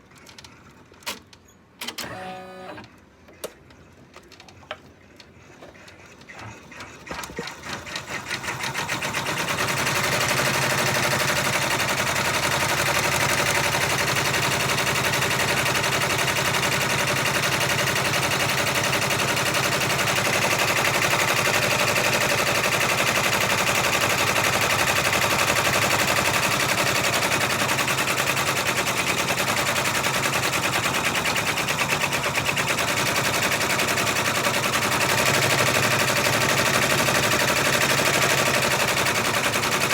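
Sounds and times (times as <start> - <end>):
embroidery machine stitching: 6.1 - 39.9.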